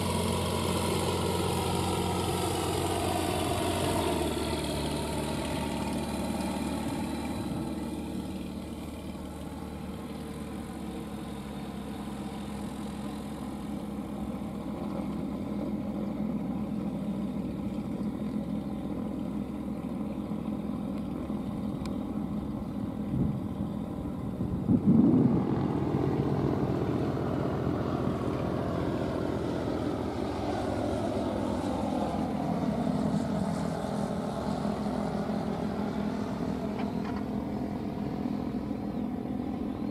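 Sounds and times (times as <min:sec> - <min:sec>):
light aircraft engine and propeller: 0:00.0 - 0:39.9
second aircraft engine: 0:00.0 - 0:39.9.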